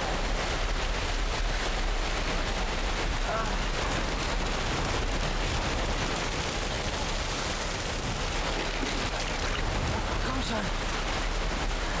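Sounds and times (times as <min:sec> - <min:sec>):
rain beating on plastic sheeting: 0:00.0 - 0:12.0.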